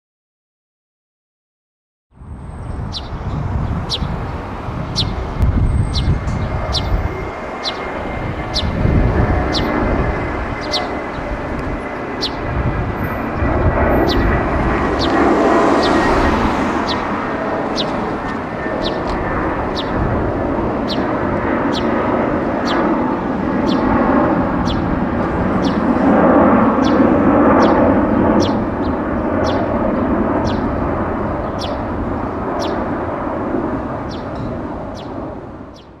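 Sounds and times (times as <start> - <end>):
jet engine rumble: 2.2 - 36.0.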